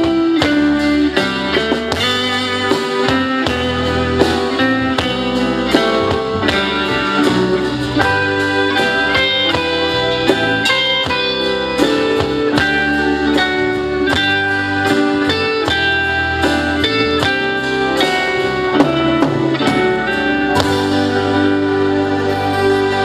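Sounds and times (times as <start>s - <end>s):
bass line: 0.0s - 23.0s
guitar: 0.0s - 23.0s.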